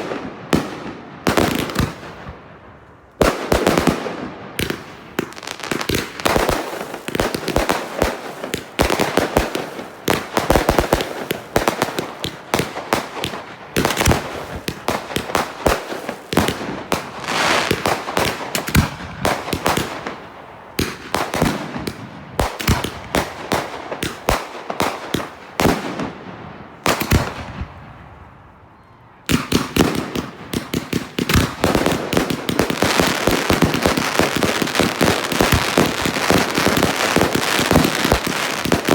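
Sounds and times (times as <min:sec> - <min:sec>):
fireworks firing with crackle: 0:00.0 - 0:02.4, 0:03.2 - 0:28.0, 0:29.3 - 0:38.9.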